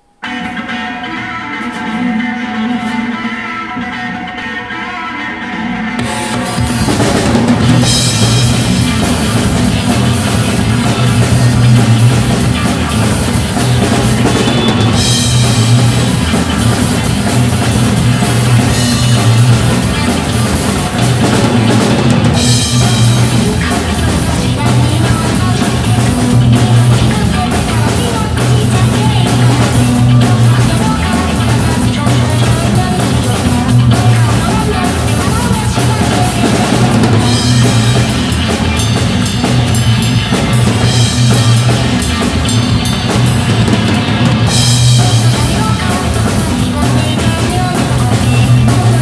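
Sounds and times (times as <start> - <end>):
drum kit playing rock beat: 0.0 - 49.0
recorded rock song: 0.0 - 49.0.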